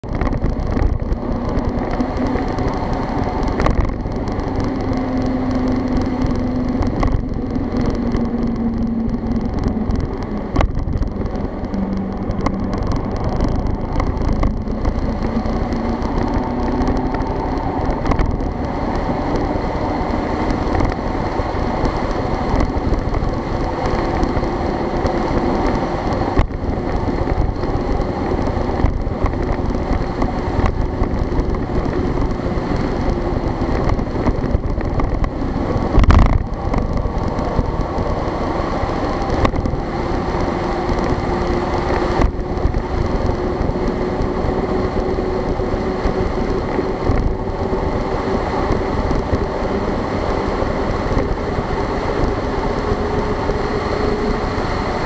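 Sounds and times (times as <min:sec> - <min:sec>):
car engine running: 0:00.0 - 0:55.0
road and wind noise: 0:00.0 - 0:55.0.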